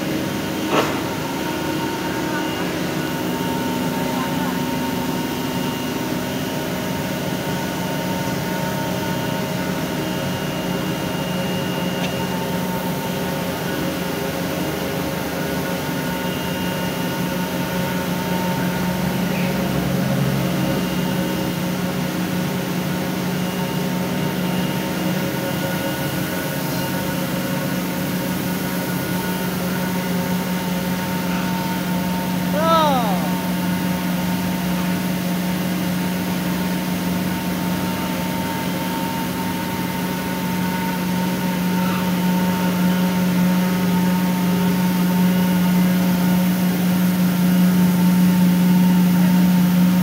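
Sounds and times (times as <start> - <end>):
machinery hum: 0.0 - 50.0.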